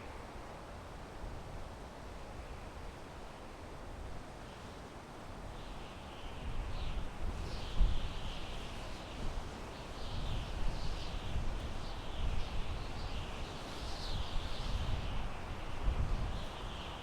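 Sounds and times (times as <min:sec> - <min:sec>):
wind through pine trees: 0:00.0 - 0:17.0.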